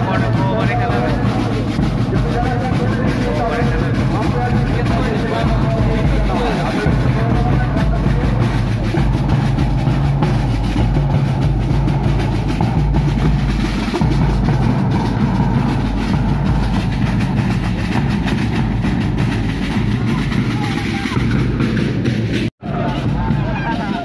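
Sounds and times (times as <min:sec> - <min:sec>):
marching drum band: 0:00.0 - 0:24.0.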